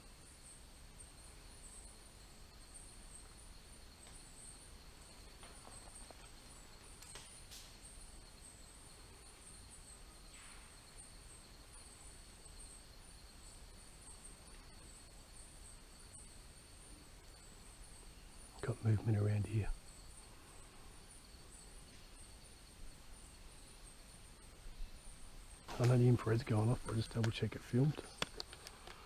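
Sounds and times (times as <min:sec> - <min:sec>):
night insects trilling: 0:00.0 - 0:29.0.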